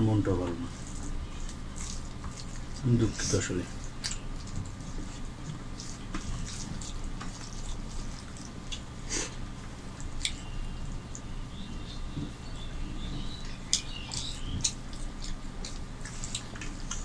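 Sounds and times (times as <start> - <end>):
faint steady hum: 0.0 - 17.0
chewing and lip smacks: 0.7 - 17.0.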